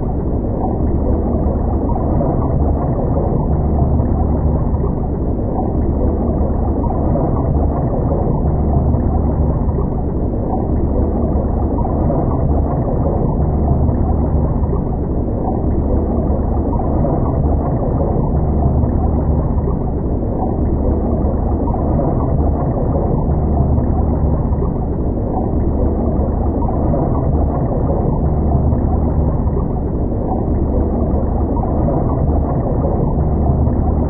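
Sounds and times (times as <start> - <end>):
deep low rumble: 0.0 - 34.0
muffled underwater river rush: 0.0 - 34.0.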